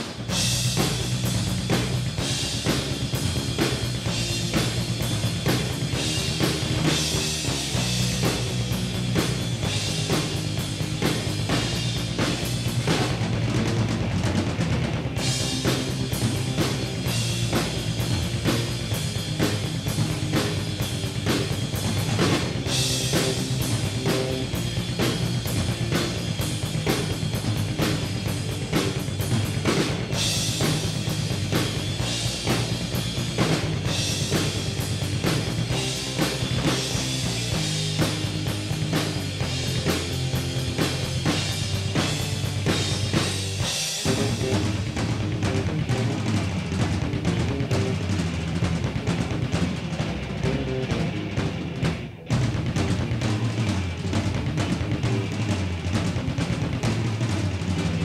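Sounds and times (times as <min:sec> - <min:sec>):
rock drumming: 0:00.0 - 0:58.0
steady bass line: 0:00.0 - 0:58.0.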